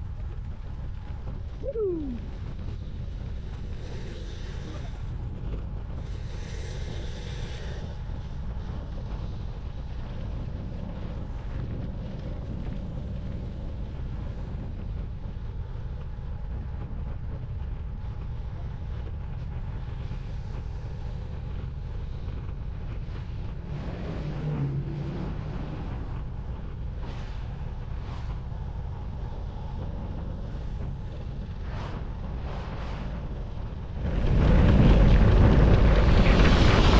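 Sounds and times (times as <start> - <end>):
low hum: 0.0 - 36.9
wind buffeting microphone: 0.0 - 36.9.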